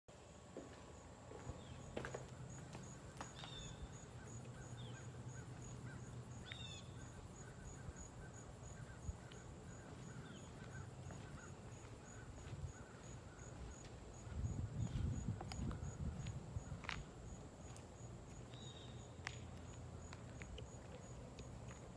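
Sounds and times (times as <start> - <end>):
insect chirping: 0.3 - 21.9.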